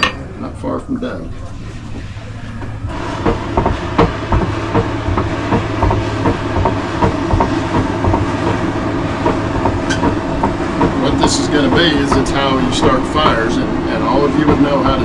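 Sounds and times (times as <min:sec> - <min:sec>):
air rushing from bellows: 0:01.3 - 0:15.0
bellows mechanism clacking: 0:01.8 - 0:15.0.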